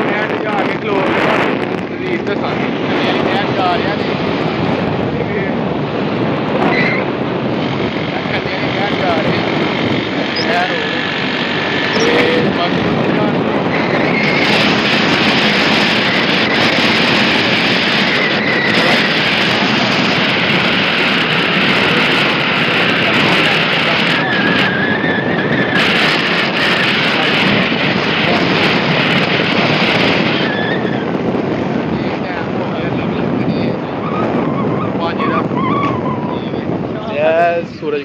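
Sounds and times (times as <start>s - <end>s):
vehicle running noise: 0.0s - 38.0s
wind buffeting microphone: 0.0s - 38.0s.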